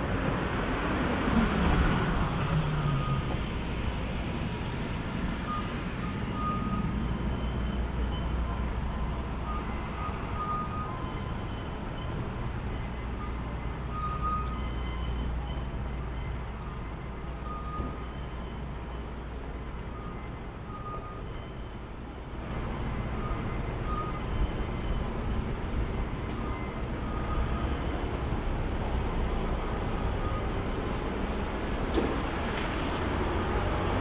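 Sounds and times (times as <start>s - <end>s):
distant traffic rumble: 0.0s - 34.0s.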